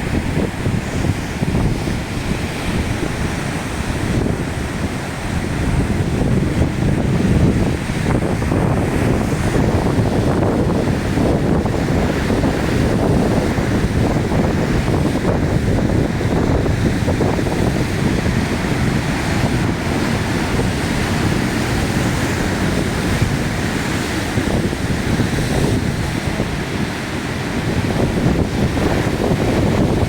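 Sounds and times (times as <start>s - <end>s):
heavy surf: 0.0s - 30.0s
wind buffeting microphone: 0.0s - 30.0s.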